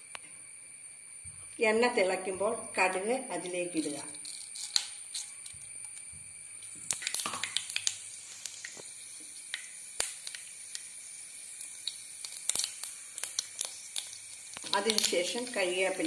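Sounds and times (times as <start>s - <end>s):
mustard seeds sizzling in oil: 0.0s - 16.0s.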